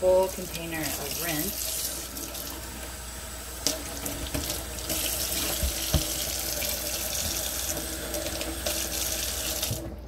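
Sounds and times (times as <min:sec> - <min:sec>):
faucet water splashing in sink: 0:00.2 - 0:10.0.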